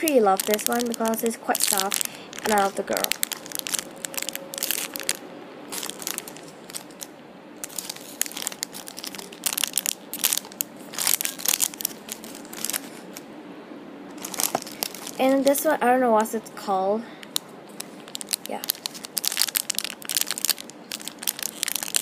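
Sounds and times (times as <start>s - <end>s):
plastic packaging crinkling: 0.0s - 13.3s, 14.1s - 15.7s, 17.2s - 22.0s.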